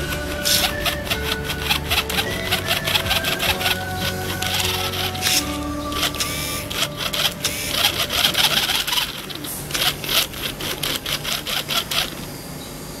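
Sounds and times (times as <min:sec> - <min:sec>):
toy car motor rattling on tile: 0:00.4 - 0:03.8, 0:04.4 - 0:12.4.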